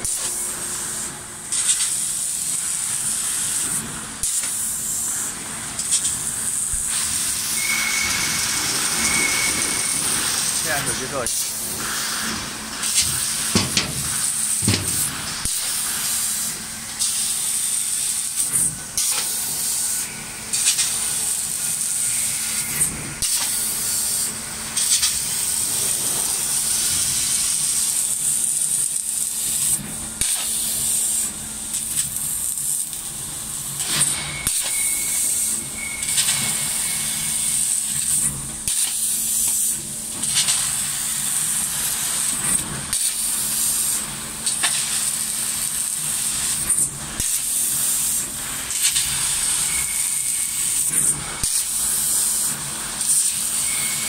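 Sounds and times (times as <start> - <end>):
laser cutter head hissing: 0.0 - 54.0.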